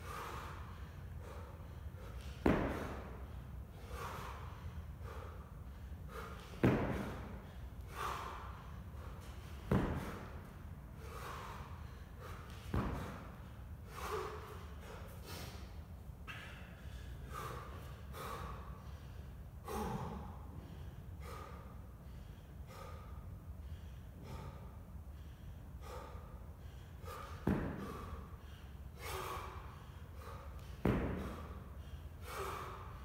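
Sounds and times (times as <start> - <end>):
man breathing hard: 0.0 - 33.0.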